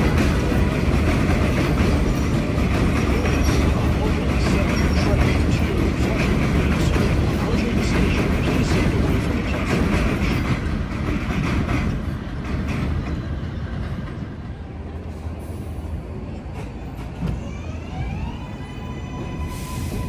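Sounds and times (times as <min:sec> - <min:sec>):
subway train rumble and clatter: 0:00.0 - 0:20.0.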